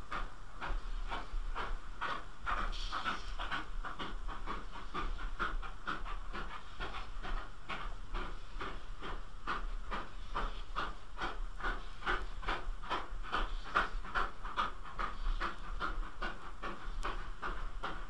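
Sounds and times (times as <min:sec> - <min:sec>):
steam locomotive exhaust beating: 0:00.0 - 0:18.0.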